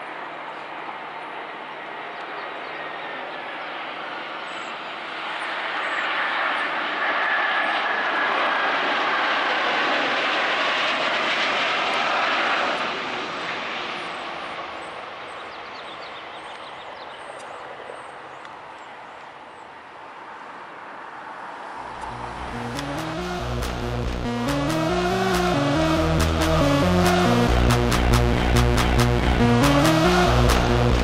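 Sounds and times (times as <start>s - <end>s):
faint falling jet whine: 0.0s - 15.7s, 20.8s - 31.0s
jet airliner passing on landing: 0.0s - 31.0s.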